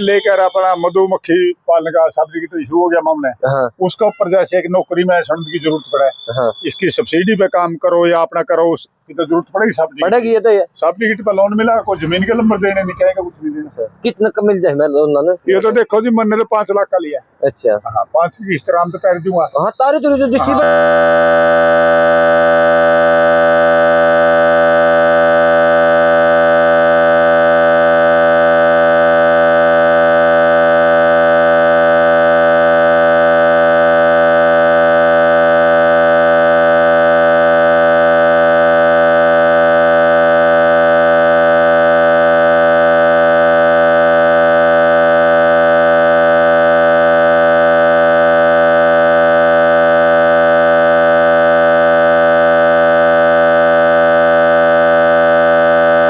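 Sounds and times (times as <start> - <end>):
steady electronic buzzing tone: 0.0 - 3.3, 3.9 - 14.2, 15.2 - 56.0.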